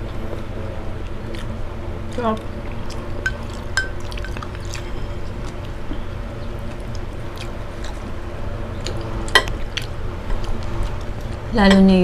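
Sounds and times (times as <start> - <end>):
chewing and mouth smacks: 0.0 - 8.2, 8.8 - 11.5
steady low hum: 0.0 - 12.0.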